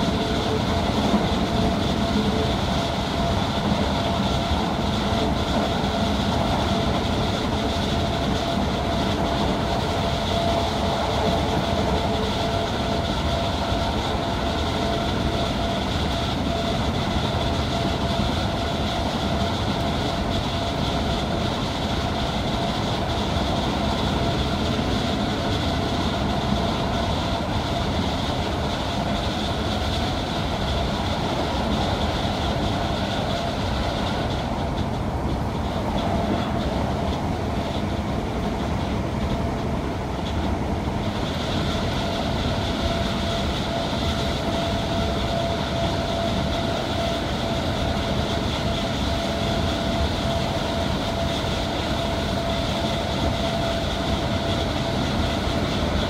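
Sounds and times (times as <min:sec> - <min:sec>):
steady train whine: 0:00.0 - 0:56.0
train wheel and rail running noise: 0:00.0 - 0:56.0.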